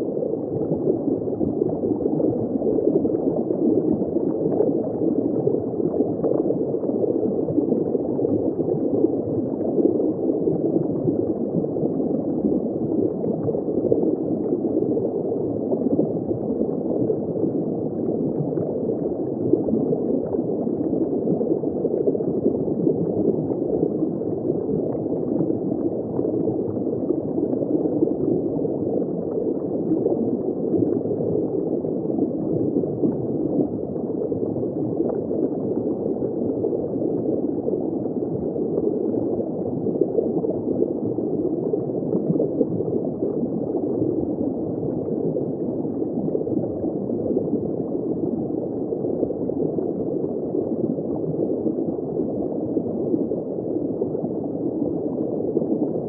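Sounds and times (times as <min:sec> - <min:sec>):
underwater bubbling and gurgling: 0:00.0 - 0:56.0.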